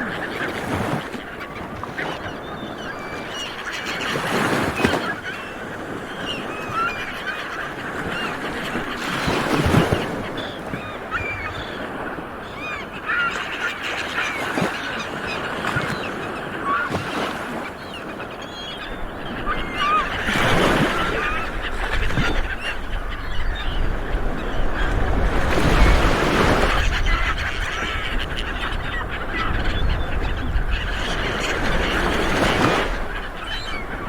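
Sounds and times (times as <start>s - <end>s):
seabirds squawking: 0.0s - 34.0s.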